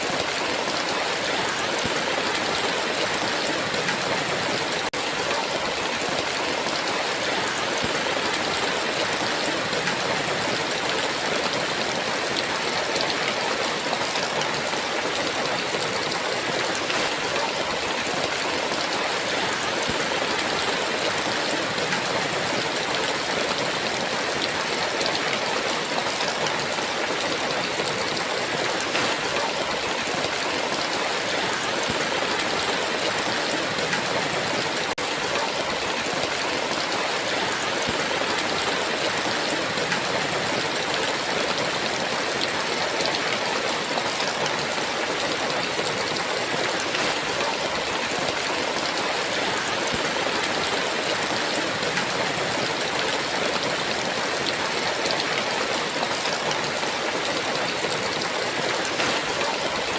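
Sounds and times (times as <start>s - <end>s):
heavy steady rain: 0.0s - 59.9s.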